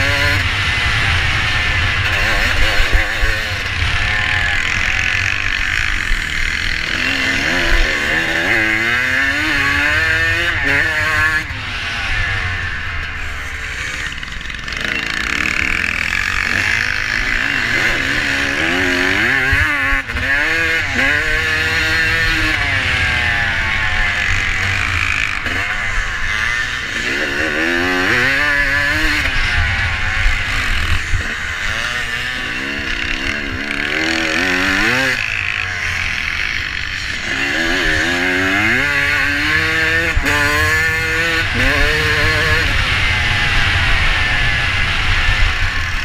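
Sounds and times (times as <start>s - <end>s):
motorbike engine revving: 0.0s - 46.0s.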